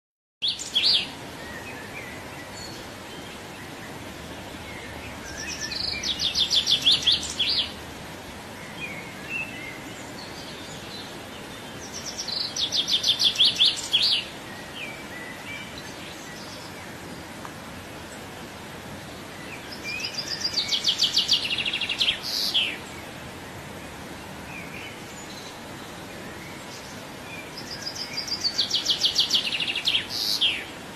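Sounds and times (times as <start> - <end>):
background hiss: 0.4 - 30.9.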